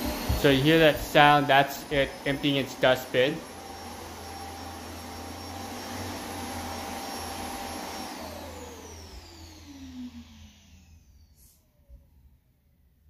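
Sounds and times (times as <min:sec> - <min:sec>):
suction motor whirring with whine: 0:00.0 - 0:11.6.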